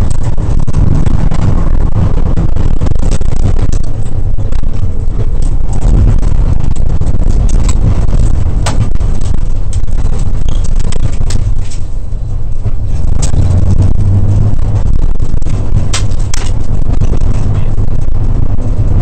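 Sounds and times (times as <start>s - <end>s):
car engine and tyre drone: 0.0s - 19.0s.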